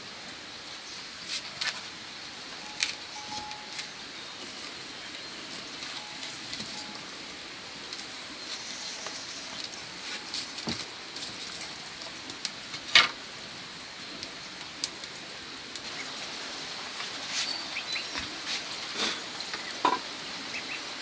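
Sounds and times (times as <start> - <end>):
steady hiss: 0.0 - 21.0
wood fire crackling: 0.0 - 21.0
fire popping and snapping: 2.8 - 20.1.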